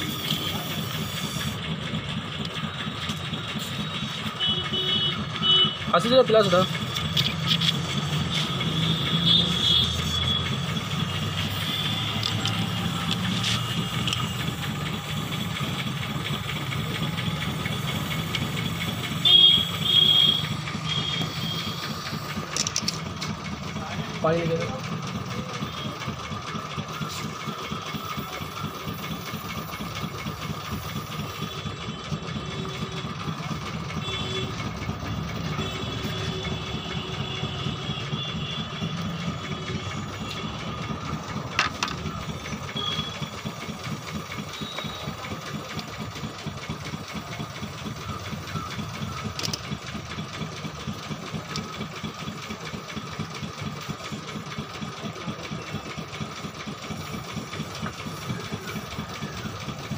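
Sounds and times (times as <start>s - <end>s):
motor running rhythmically: 0.0s - 59.9s.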